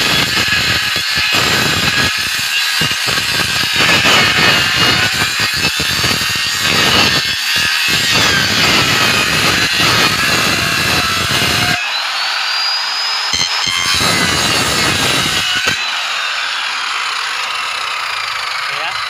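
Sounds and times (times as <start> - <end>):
circular saw cutting bamboo: 0.0 - 19.0.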